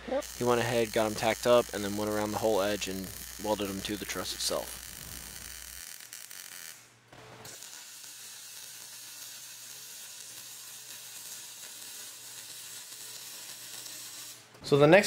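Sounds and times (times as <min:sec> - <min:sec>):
welder arc crackling: 0:00.1 - 0:14.4.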